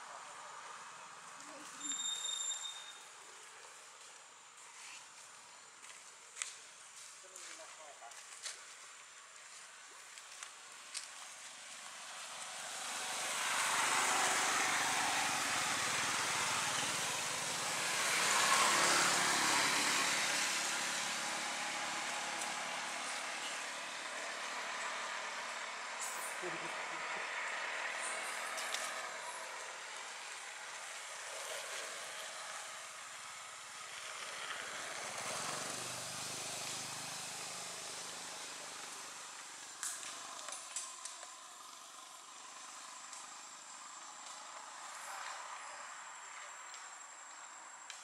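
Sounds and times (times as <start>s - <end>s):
outdoor background hiss: 0.0s - 48.0s.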